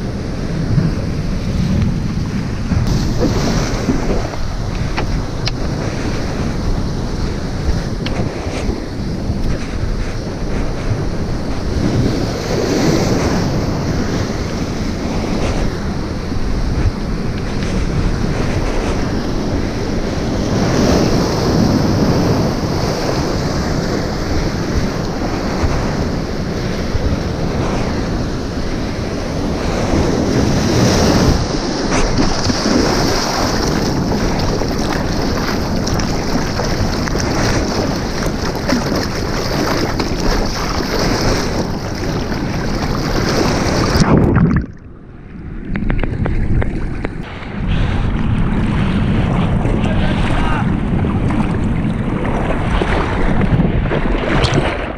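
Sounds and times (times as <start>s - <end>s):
surf breaking over boulders: 0.0s - 54.9s
wind rumbling on microphone: 0.0s - 54.9s.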